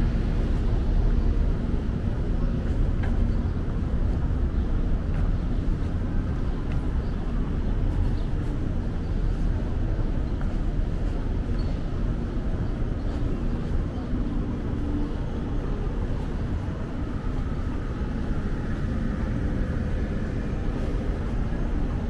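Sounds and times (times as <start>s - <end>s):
low rumble of city ambience: 0.0s - 22.0s.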